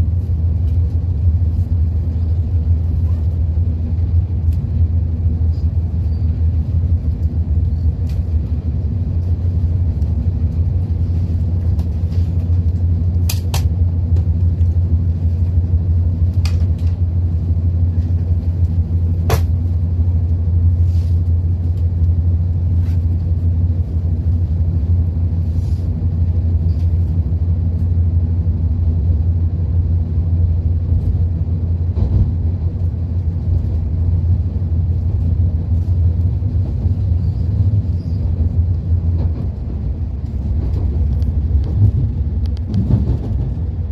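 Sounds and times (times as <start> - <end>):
train rumble inside passenger car: 0.0 - 43.9.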